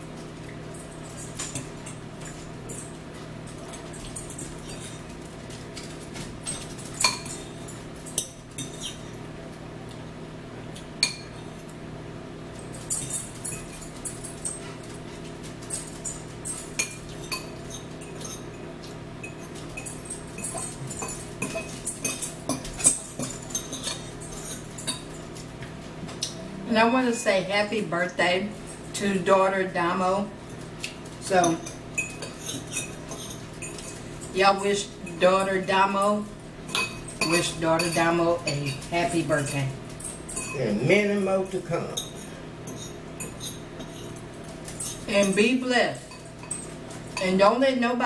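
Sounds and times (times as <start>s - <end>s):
low steady hum: 0.0s - 48.0s
cutlery clinking against bowls: 0.4s - 9.2s, 10.8s - 11.8s, 12.6s - 26.4s, 30.4s - 47.4s.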